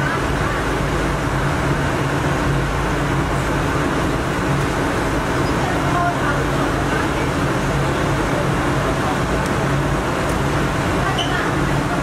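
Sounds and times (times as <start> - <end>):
ferry engine hum: 0.0 - 12.0
water rushing along hull: 0.0 - 12.0.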